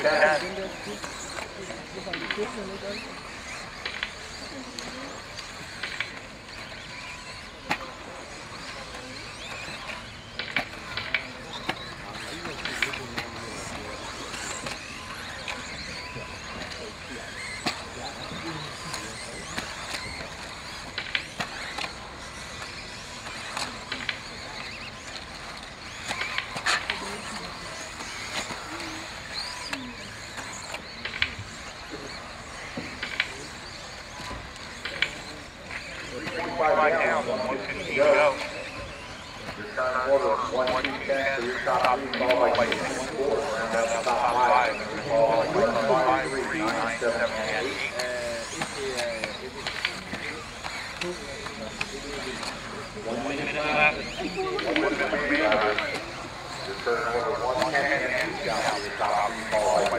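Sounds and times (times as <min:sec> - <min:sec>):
distant voices murmuring: 0:00.0 - 0:59.9
rc car motors whirring: 0:00.0 - 0:59.9.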